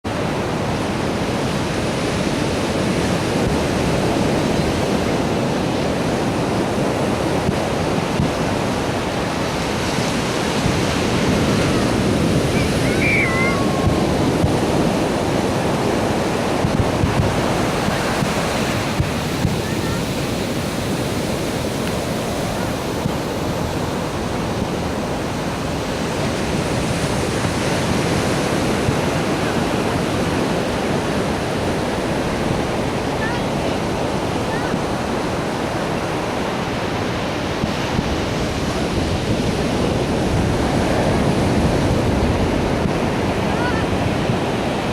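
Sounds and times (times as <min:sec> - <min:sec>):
ocean surf rushing: 0:00.0 - 0:44.9
wind on microphone: 0:00.1 - 0:44.9.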